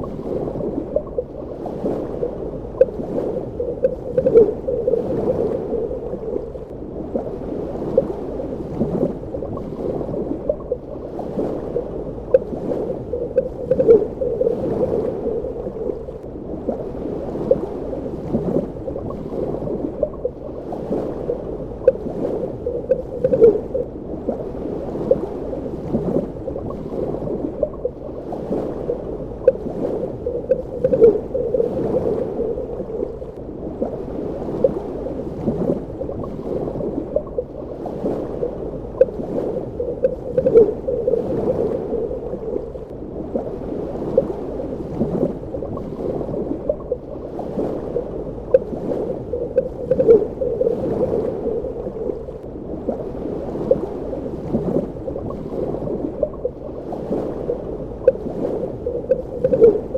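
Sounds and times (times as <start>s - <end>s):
muffled underwater wash: 0.0s - 59.9s
water bubbling and gurgling: 0.0s - 59.9s.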